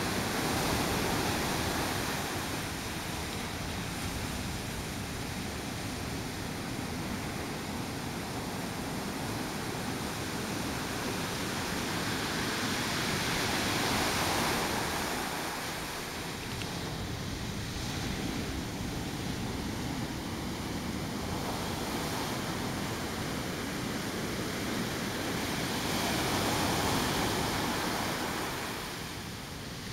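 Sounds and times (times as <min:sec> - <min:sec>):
ocean waves breaking on beach: 0:00.0 - 0:29.9.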